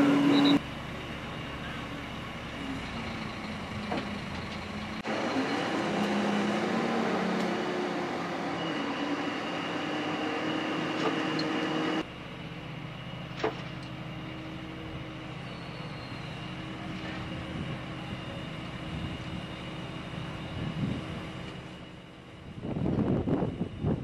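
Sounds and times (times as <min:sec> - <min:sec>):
crane diesel engine running: 0:00.0 - 0:24.0.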